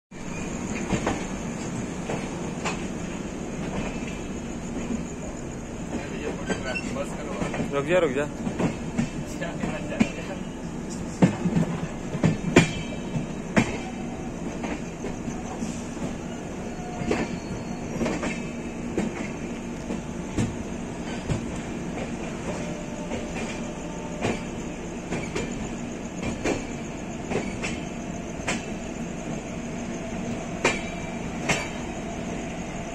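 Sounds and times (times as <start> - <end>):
train wheels rumbling: 0.1 - 32.9.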